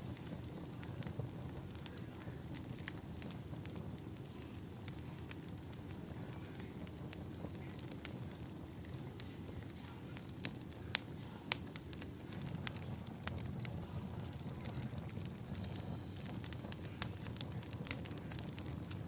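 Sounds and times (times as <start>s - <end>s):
fireplace crackling and popping: 0.0s - 19.0s.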